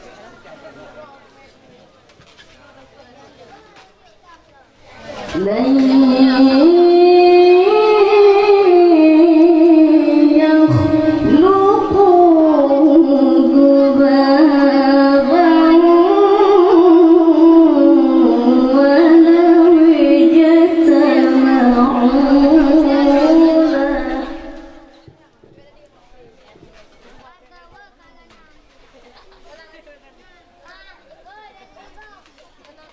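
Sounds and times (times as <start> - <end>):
boy reciting melodically into microphone: 3.6 - 32.9.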